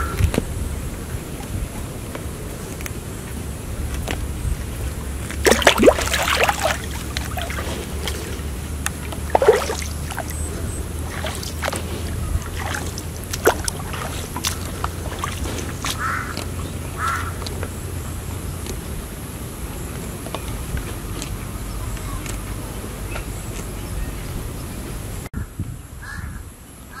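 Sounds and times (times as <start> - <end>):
water splashing and sloshing: 0.0 - 25.3
steady low rumble: 0.0 - 25.9.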